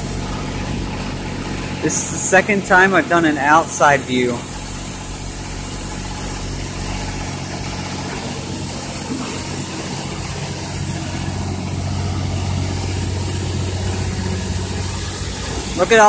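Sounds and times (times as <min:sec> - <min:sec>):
pump motor hum: 0:00.0 - 0:16.0
water spray hissing: 0:00.0 - 0:16.0.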